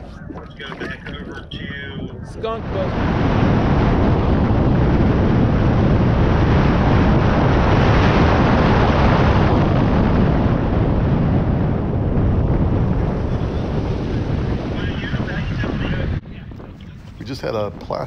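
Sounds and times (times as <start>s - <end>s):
water noise: 0.0s - 18.0s
wind on microphone: 0.0s - 18.0s.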